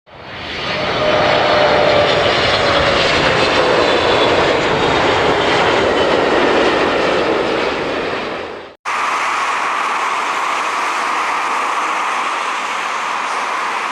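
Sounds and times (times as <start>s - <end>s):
airliner engine whine: 0.1s - 13.9s.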